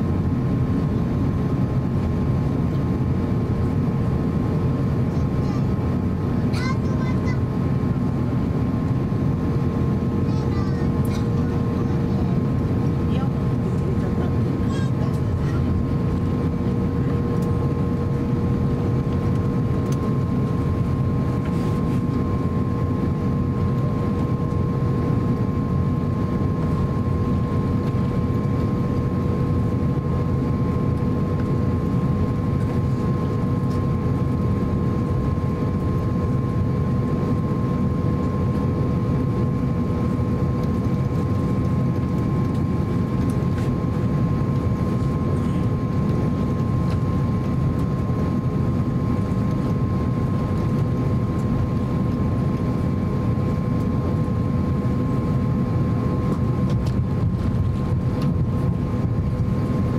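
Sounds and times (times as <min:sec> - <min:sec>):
airplane cabin low rumble: 0:00.0 - 0:59.9.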